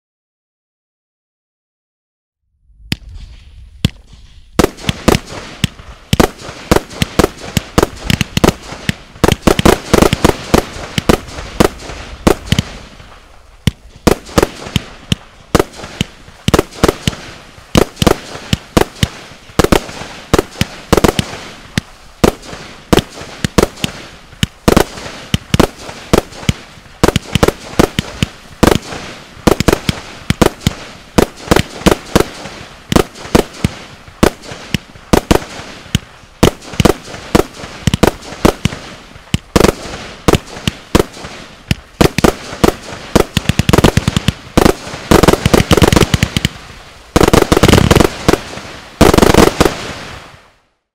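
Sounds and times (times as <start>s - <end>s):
firework cake loud reports: 2.7s - 50.5s.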